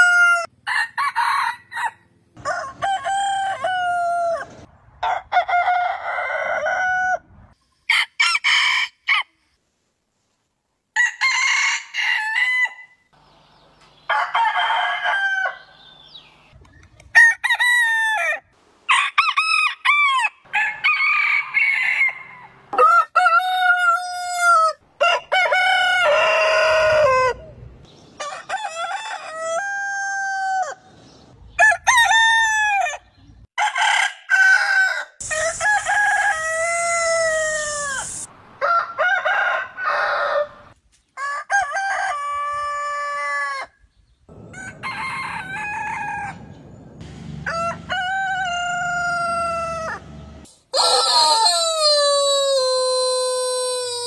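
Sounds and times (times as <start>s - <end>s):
roosters crowing: 0.0s - 9.3s, 11.0s - 13.0s, 14.1s - 16.1s, 17.2s - 30.9s, 31.6s - 43.7s, 44.3s - 54.0s.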